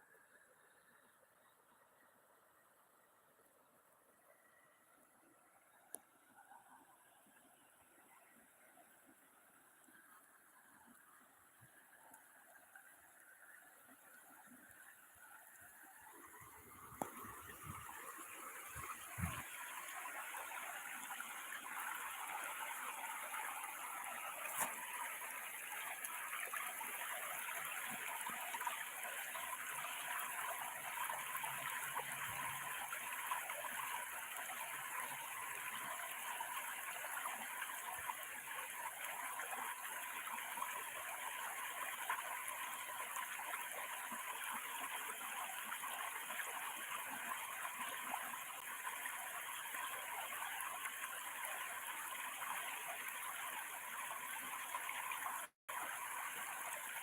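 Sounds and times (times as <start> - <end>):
water flowing over a weir: 9.0 - 57.0.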